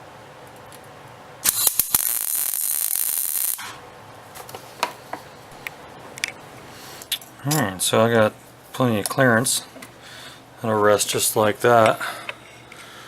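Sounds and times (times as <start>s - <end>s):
loud steady hiss: 1.0s - 12.1s.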